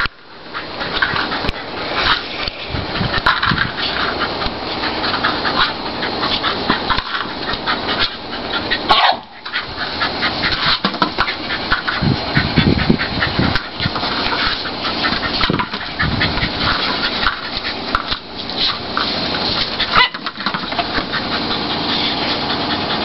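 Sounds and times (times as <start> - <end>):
grass rustling: 0.0 - 23.0
dog breathing and snuffling: 0.5 - 20.0, 20.6 - 23.0.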